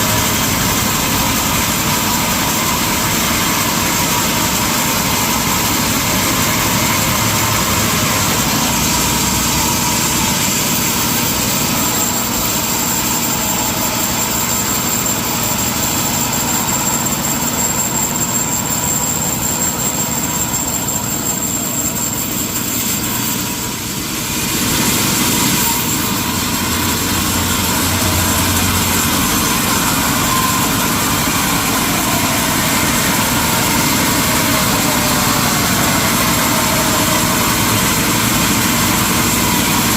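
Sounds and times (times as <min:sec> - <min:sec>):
high machine whine: 0:00.0 - 0:39.9
sawmill machinery running: 0:00.0 - 0:39.9.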